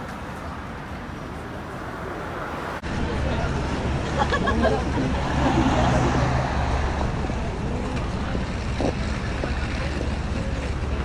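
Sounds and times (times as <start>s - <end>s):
faint chatter of passers-by: 0.0s - 11.0s
low traffic rumble: 0.0s - 11.0s.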